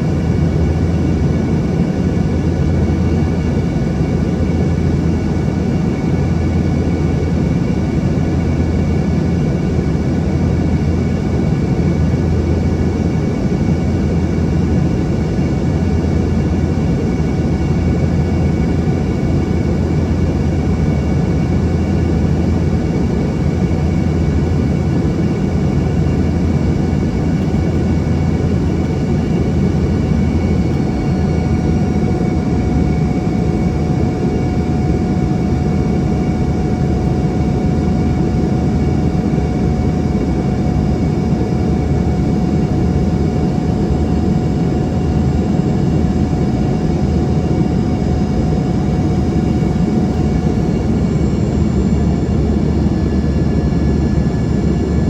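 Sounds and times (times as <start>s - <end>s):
aircraft cabin engine rumble: 0.0s - 55.0s
jet engine whine: 0.0s - 55.0s.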